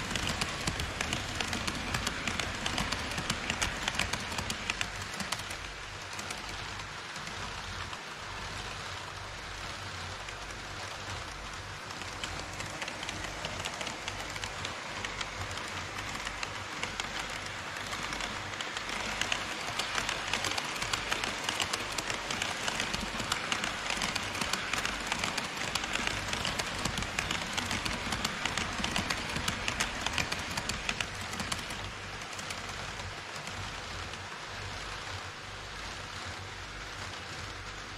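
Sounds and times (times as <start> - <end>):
model train wheels rattling: 0.0 - 37.9.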